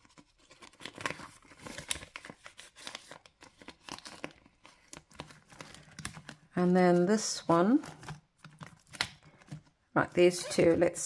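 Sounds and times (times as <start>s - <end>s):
paper and plastic rustling: 0.0s - 11.0s.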